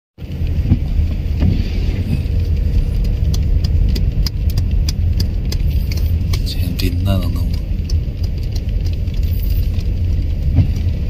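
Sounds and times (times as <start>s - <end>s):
car engine and tyre rumble: 0.2s - 11.0s.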